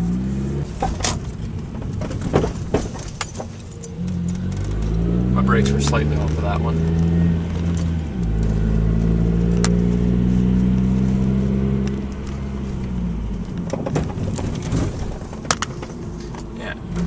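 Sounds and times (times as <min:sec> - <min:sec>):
car engine running: 0:00.0 - 0:17.0
car clunking over bumps: 0:00.6 - 0:17.0.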